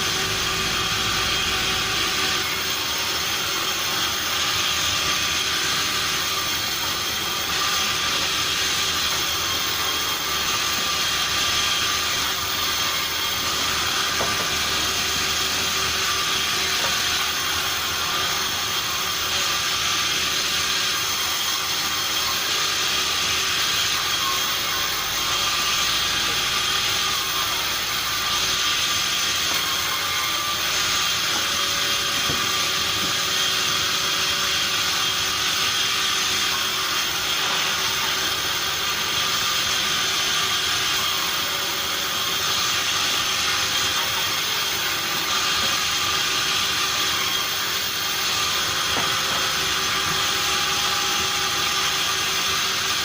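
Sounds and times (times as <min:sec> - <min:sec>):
sawmill machinery running: 0:00.0 - 0:53.0
steady whining tones: 0:00.0 - 0:53.0.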